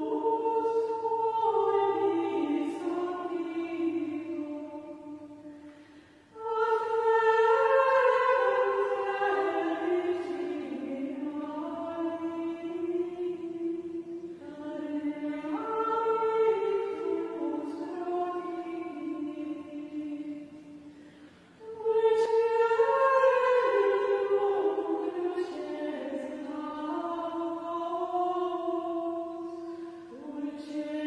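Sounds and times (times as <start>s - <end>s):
choir singing chant in unison: 0.0s - 5.4s, 6.4s - 20.4s, 21.6s - 31.0s.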